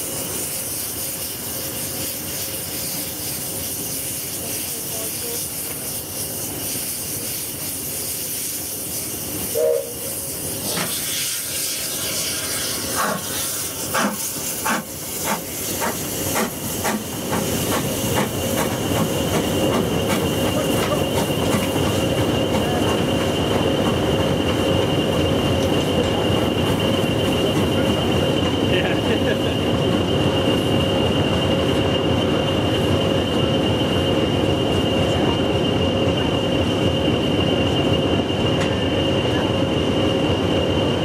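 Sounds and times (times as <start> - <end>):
steam hissing: 0.0 - 35.7
steam locomotive exhaust beats: 0.0 - 41.0
train rumbling: 0.0 - 41.0.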